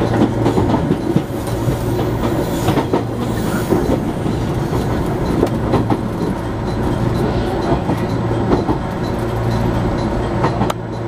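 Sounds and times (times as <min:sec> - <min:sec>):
train rumble: 0:00.0 - 0:11.0
wheels clacking over rail joints: 0:00.0 - 0:11.0.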